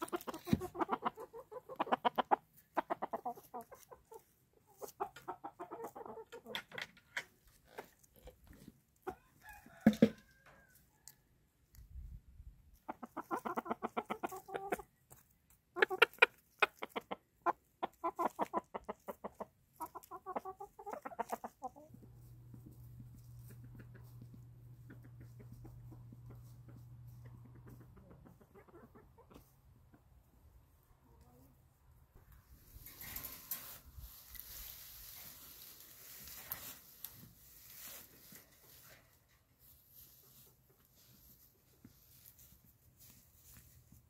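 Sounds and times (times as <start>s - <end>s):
chickens clucking: 0.0s - 9.3s, 12.4s - 31.4s, 32.2s - 43.7s.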